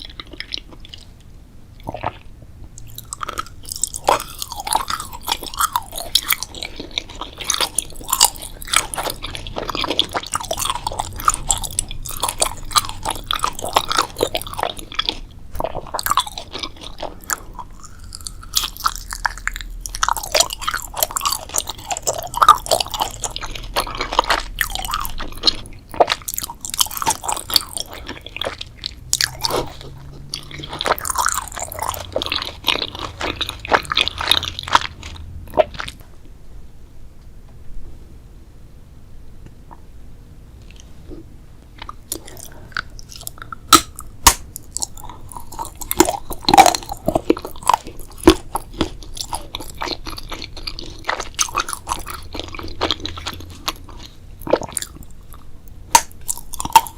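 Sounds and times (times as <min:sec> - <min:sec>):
person chewing crunchy food: 0:00.0 - 0:36.1, 0:40.6 - 0:56.9.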